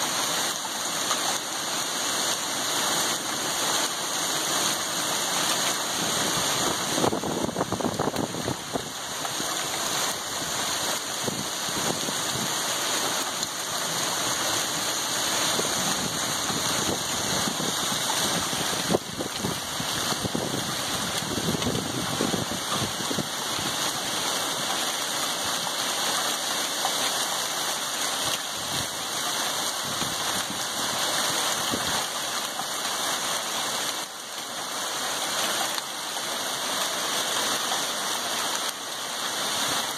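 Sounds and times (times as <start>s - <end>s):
hailstones ticking: 0.0s - 39.9s
heavy rain and hail pelting: 0.0s - 39.9s.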